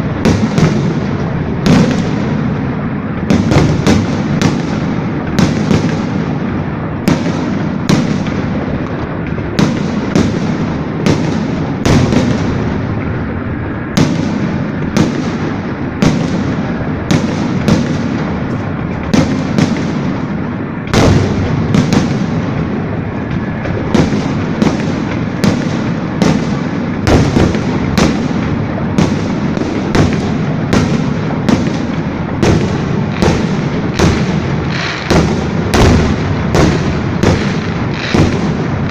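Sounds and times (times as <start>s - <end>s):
rumbling crackle: 0.0s - 38.9s
sharp firework bangs: 0.0s - 38.9s.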